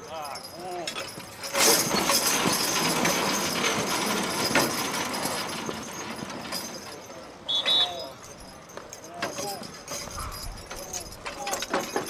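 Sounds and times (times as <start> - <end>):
sled scraping and clattering: 0.2 - 12.0.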